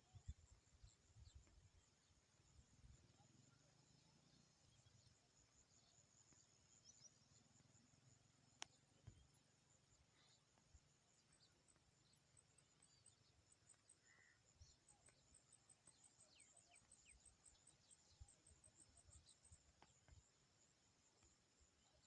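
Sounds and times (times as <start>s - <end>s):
faint high chirps: 0.0s - 22.0s
faint insect chirping: 0.0s - 22.0s.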